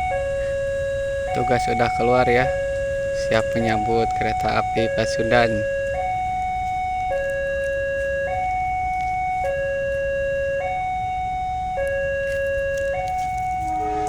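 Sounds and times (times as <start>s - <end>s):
level-crossing two-tone alarm: 0.0s - 14.0s.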